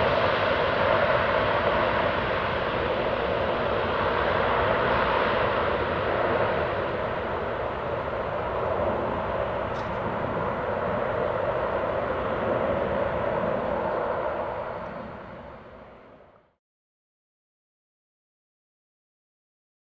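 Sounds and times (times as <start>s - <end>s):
distant turboprop engines drone: 0.0s - 16.6s.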